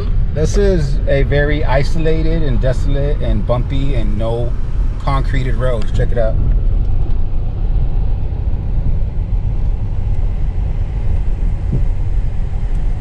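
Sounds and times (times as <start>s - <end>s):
car driving on dirt road: 0.0s - 13.0s.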